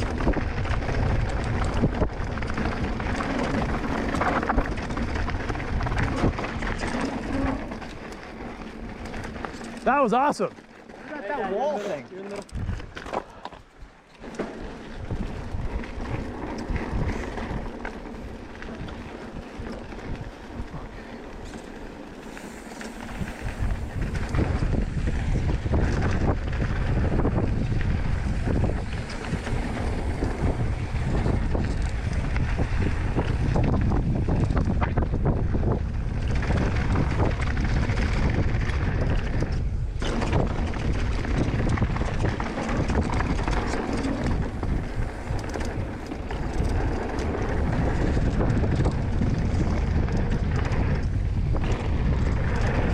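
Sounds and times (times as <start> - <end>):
wind buffeting microphone: 0.0 - 10.5, 11.2 - 14.0, 14.7 - 52.9
bike rattling over rough trail: 0.0 - 52.9.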